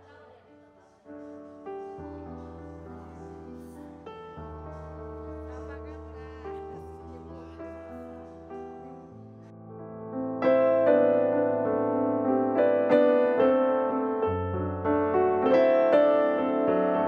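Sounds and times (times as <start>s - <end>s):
soft piano piece: 0.0s - 17.0s.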